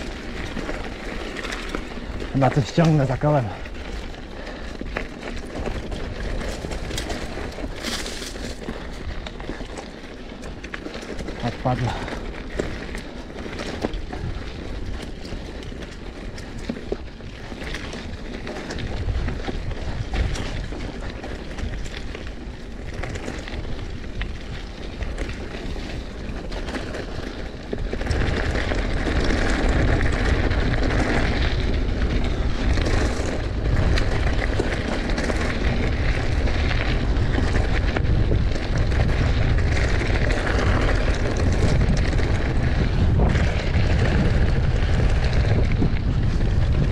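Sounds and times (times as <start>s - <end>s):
bike rattling: 0.0s - 46.9s
bike tyres rolling: 0.0s - 46.9s
wind buffeting microphone: 0.0s - 46.9s.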